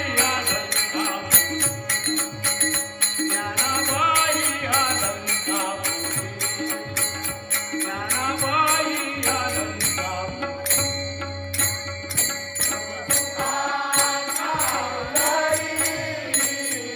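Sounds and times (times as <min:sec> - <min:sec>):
rhythmic percussion accompaniment: 0:00.0 - 0:16.9.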